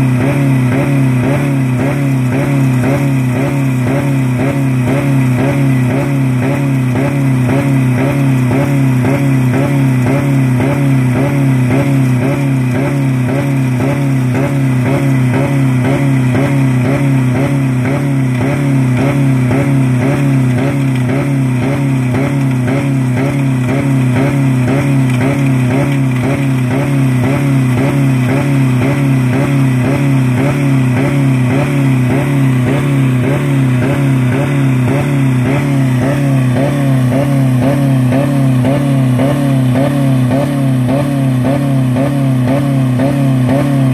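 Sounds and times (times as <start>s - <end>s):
car engine high-revving drone: 0.0s - 43.9s.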